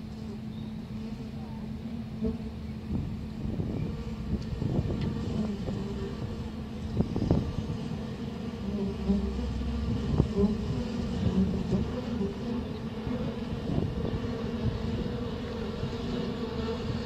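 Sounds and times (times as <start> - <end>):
bee swarm buzzing over speakers: 0.0 - 17.0.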